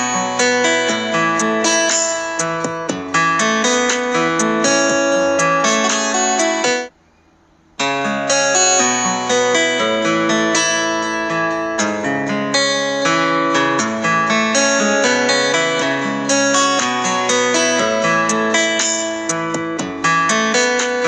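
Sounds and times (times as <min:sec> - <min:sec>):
plucked guitar melody: 0:00.0 - 0:06.9, 0:07.8 - 0:21.0.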